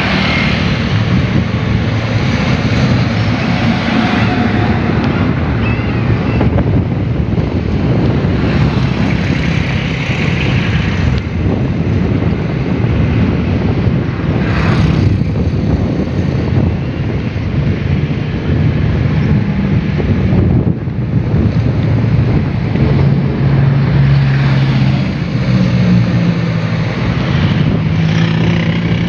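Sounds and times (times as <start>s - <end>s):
heavy engine running: 0.0s - 29.0s
wind noise on microphone: 0.0s - 29.0s.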